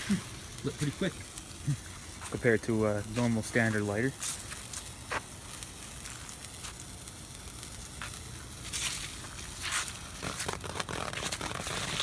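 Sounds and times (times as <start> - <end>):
sparklers fizzing and crackling: 0.0 - 12.0.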